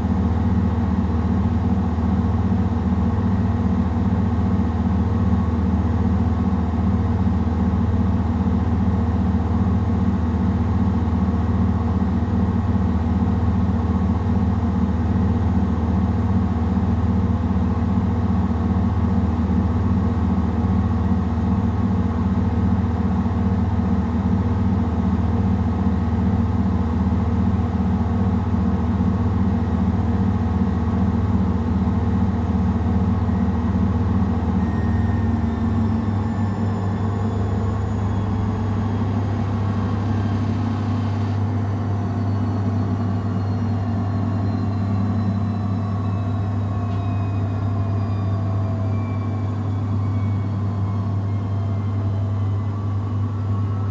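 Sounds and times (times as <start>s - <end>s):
washing machine spinning: 1.9s - 48.0s.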